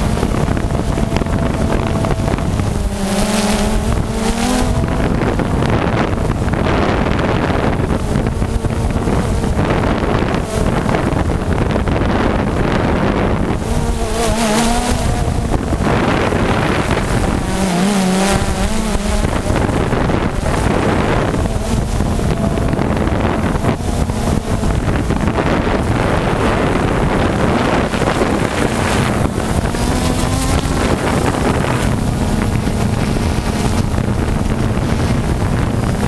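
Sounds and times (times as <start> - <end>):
drone motor whine: 0.0 - 36.0
prop wash and wind rush: 0.0 - 36.0.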